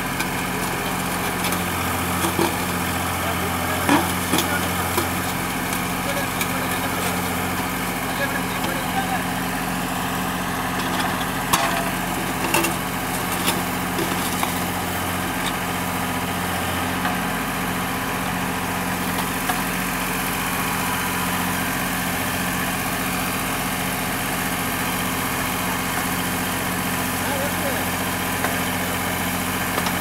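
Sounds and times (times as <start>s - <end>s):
backhoe digging soil: 0.0s - 23.2s, 24.2s - 30.0s
tractor diesel engine running: 0.0s - 30.0s.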